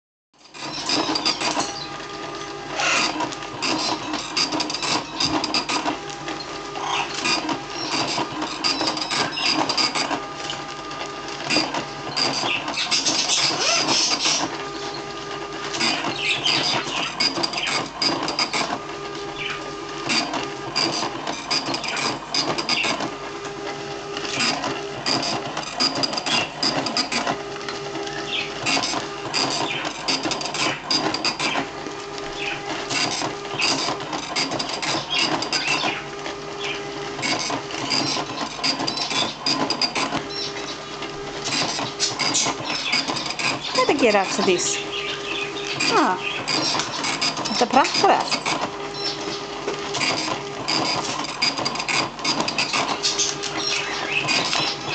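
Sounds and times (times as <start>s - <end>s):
dot-matrix printer chattering: 0.4s - 54.9s.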